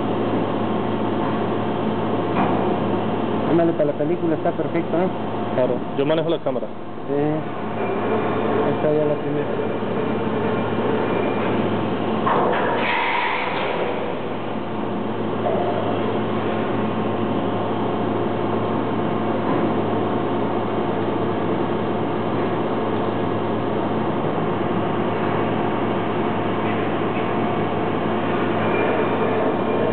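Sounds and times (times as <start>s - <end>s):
machine hum with whining tones: 0.0s - 29.9s.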